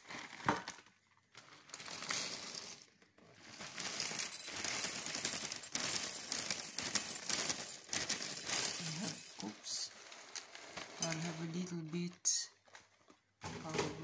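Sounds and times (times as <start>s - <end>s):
cereal sticks pouring into a bowl: 0.0s - 13.2s.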